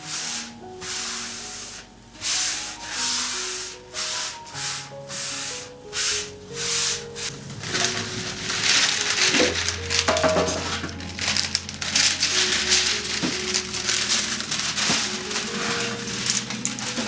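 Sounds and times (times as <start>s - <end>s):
scraping strokes: 0.0s - 17.0s
soft background music: 0.0s - 17.0s.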